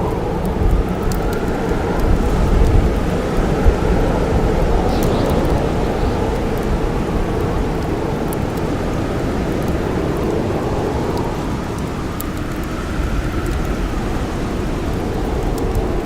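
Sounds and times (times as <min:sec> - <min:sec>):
blizzard wind howling: 0:00.0 - 0:16.0
campfire crackling: 0:00.0 - 0:16.0.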